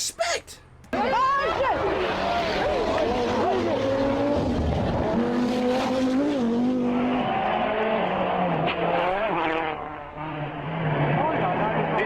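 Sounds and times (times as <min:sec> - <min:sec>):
car engine at high revs: 0:01.6 - 0:12.0.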